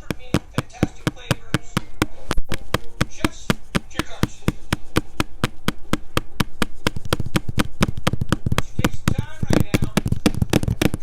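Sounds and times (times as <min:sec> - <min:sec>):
rapid sharp clicking: 0:00.0 - 0:11.0.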